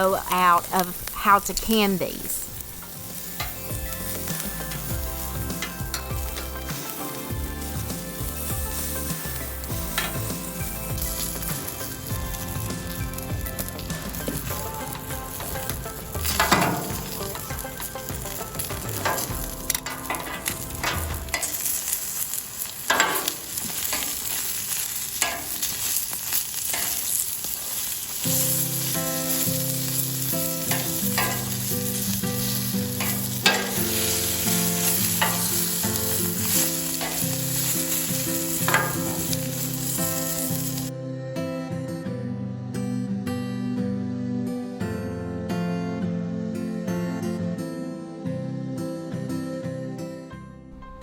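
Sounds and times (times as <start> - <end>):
chilies sizzling in oil: 0.0 - 40.9.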